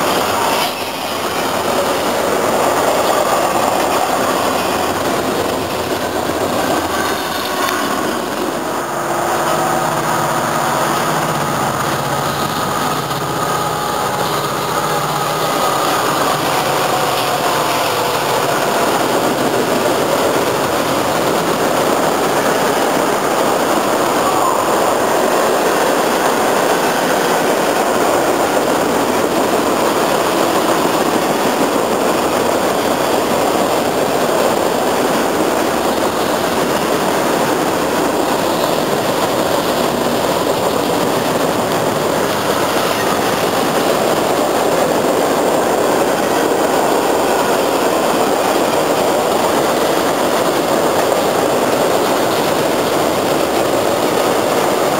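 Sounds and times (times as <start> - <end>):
train cars rolling on rails: 0.0 - 54.9.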